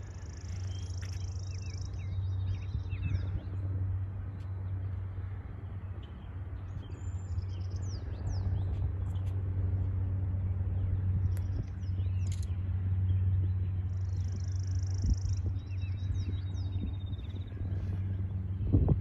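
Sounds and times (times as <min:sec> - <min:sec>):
low rumble: 0:00.0 - 0:19.0
small birds chirping: 0:00.0 - 0:19.0.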